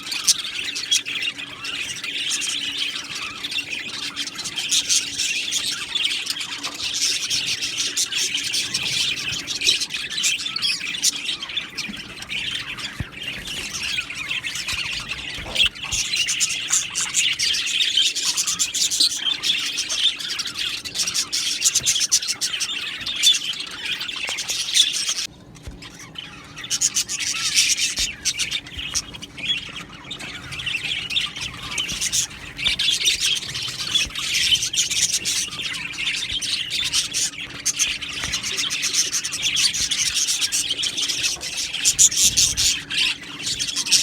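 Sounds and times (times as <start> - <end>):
budgies chattering and squawking: 0.0 - 44.0.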